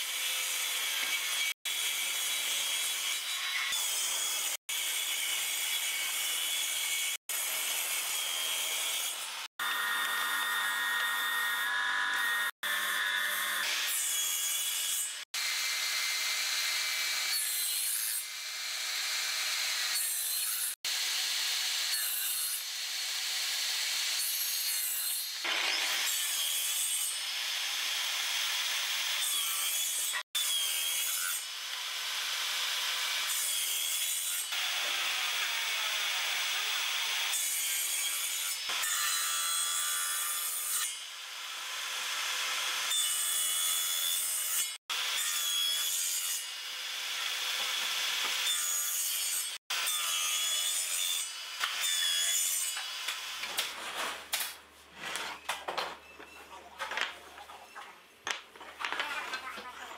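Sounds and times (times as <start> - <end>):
table saw cutting wood: 0.0 - 54.6.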